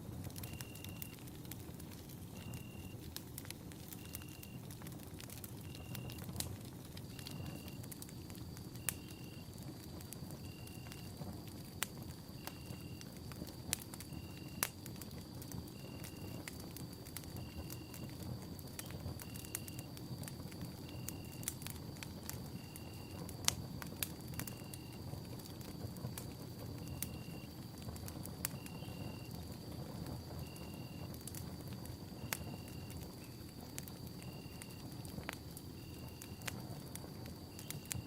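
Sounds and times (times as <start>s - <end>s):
campfire crackling and popping: 0.0s - 38.0s
low rumble of flames: 0.0s - 38.0s.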